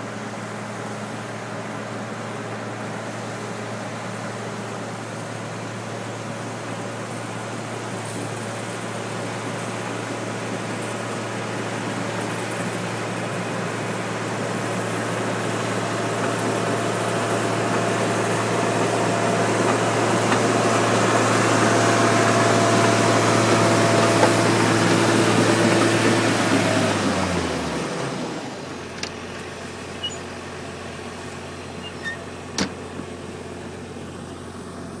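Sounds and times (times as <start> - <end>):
diesel bulldozer engine running: 0.0 - 35.0.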